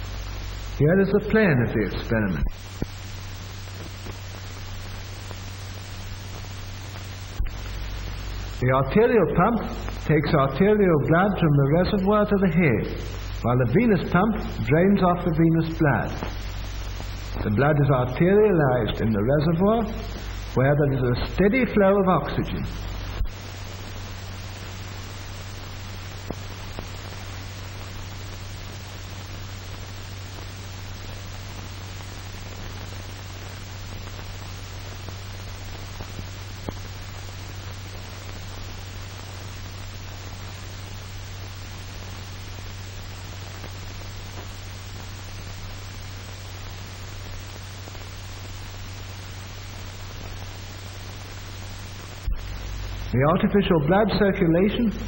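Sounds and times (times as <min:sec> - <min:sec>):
film soundtrack hiss: 0:00.0 - 0:55.0
low hum: 0:00.0 - 0:55.0.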